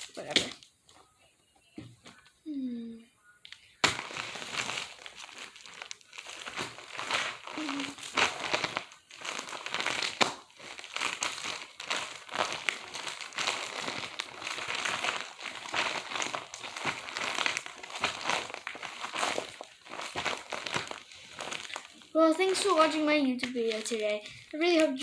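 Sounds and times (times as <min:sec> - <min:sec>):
crinkling of fidget toys: 0:00.0 - 0:02.4, 0:03.4 - 0:25.0.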